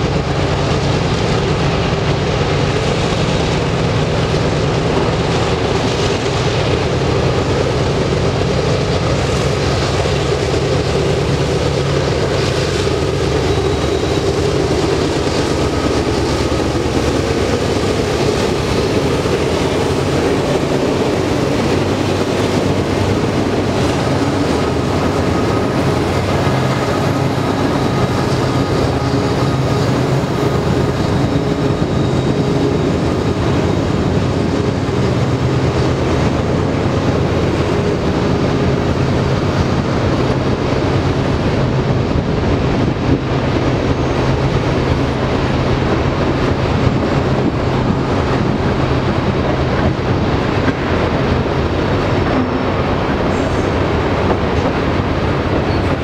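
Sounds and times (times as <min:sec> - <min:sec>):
diesel locomotives working hard: 0:00.0 - 0:56.0
train wheels on rails: 0:00.0 - 0:56.0.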